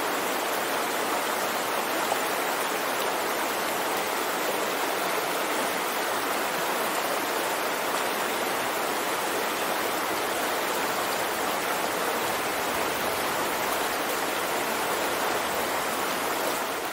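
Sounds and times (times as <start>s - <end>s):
river babbling over stones: 0.0s - 16.9s.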